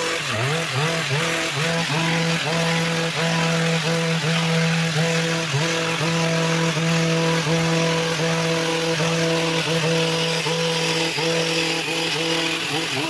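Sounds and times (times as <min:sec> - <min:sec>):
hedge trimmer engine running: 0:00.0 - 0:13.0.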